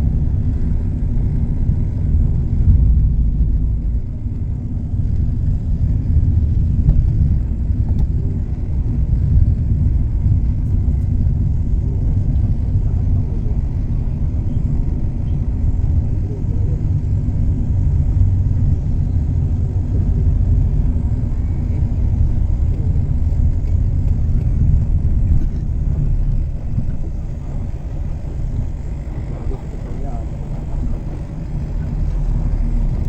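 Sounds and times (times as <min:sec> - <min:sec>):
road vehicle rumble: 0:00.0 - 0:33.0.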